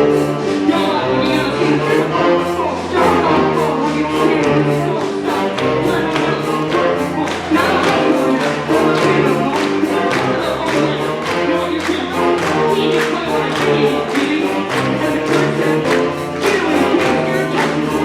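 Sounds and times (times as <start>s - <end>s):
wind band with percussion: 0.0s - 18.0s.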